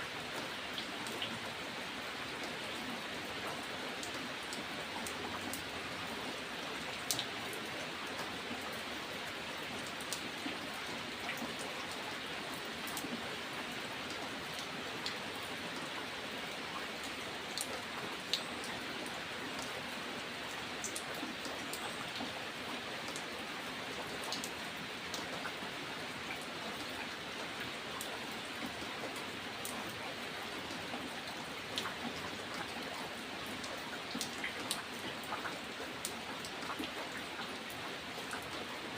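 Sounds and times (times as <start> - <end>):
steady rain hiss: 0.0 - 38.9
raindrops ticking on surface: 0.1 - 38.9.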